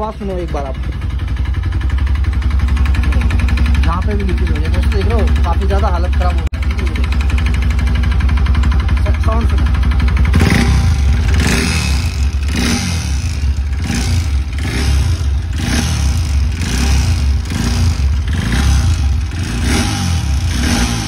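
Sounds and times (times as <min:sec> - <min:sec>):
motorcycle engine revving with clatter: 0:00.0 - 0:21.0.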